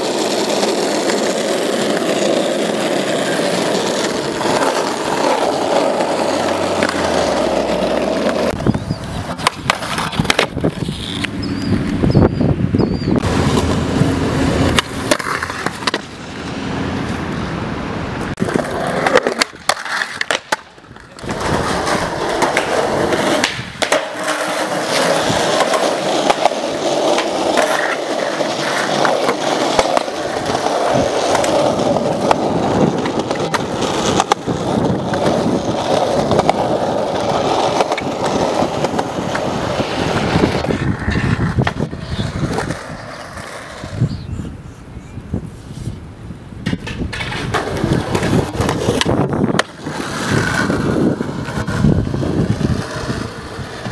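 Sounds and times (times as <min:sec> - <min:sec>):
skateboard clacking on ground: 0:00.0 - 0:12.2, 0:13.1 - 0:17.4, 0:18.2 - 0:44.0, 0:46.6 - 0:53.9
skateboard wheels rolling on concrete: 0:00.0 - 0:53.9.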